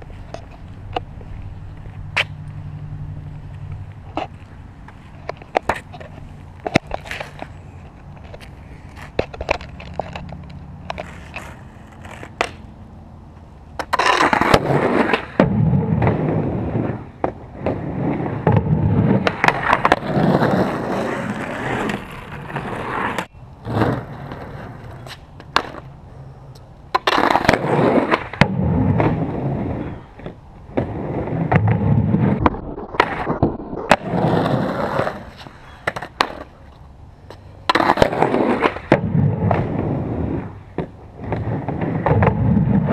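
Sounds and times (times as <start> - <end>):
skateboard clacking on ground: 0.0 - 12.8, 13.7 - 42.9
skateboard wheels rolling on concrete: 0.0 - 42.9.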